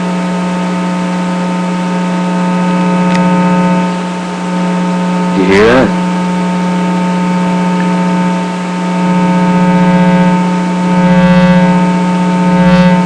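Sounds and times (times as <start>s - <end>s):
low buzzing drone: 0.0s - 13.0s.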